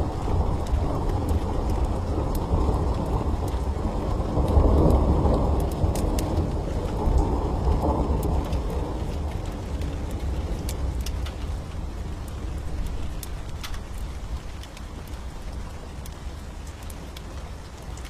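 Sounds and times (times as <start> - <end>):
thunder rumbling: 0.0 - 16.2
faint sharp crackles: 0.0 - 18.0
heavy rain: 0.0 - 18.0.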